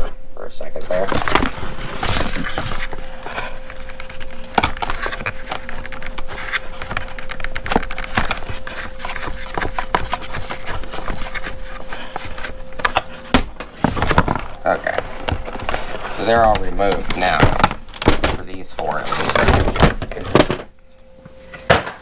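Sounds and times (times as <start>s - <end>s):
faint steady hum: 0.0s - 22.0s
clicks knocks and scrapes: 0.9s - 20.6s.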